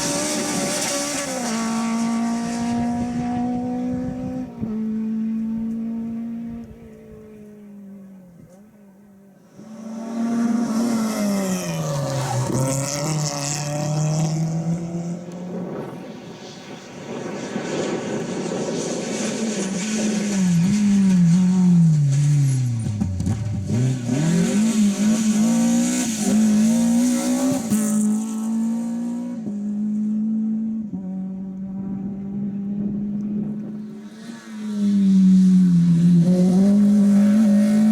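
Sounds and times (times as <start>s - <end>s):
rally car engine: 0.0s - 37.9s.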